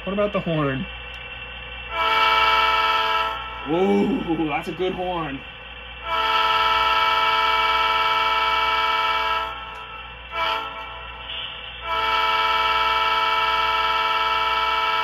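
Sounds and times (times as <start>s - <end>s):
multi-tone locomotive horn: 1.9s - 5.4s, 6.0s - 15.0s.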